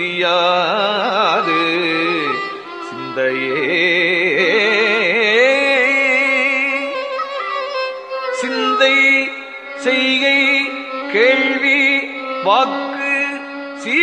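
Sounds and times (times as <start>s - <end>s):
person singing devotional hymn: 0.0s - 14.0s.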